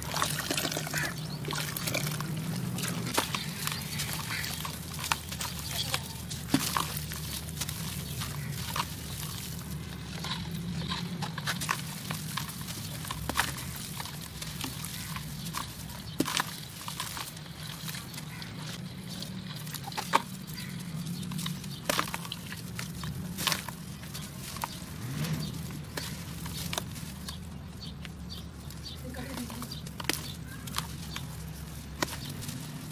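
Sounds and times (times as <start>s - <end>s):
clay crunching by hand: 0.0s - 32.9s.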